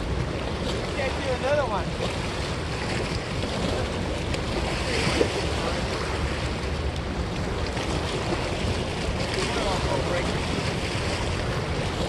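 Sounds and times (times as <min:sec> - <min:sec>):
river water washing against bank: 0:00.0 - 0:12.0
wind rumbling on microphone: 0:00.0 - 0:12.0.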